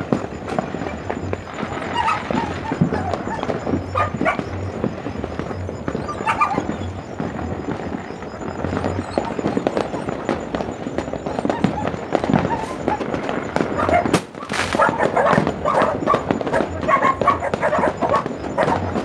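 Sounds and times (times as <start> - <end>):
firecrackers and fireworks crackling: 0.0 - 19.0
dog barking: 0.1 - 19.0.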